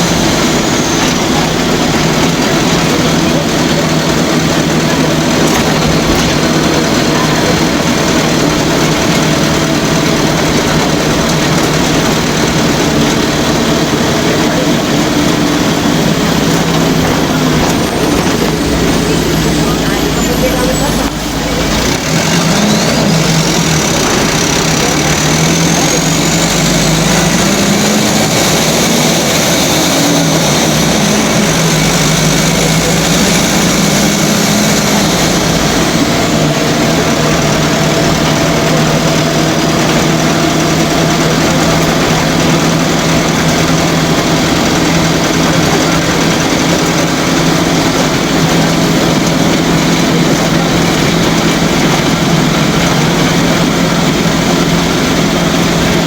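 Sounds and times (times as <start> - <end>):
diesel engine running: 0.0 - 56.0
high whine: 0.0 - 56.0.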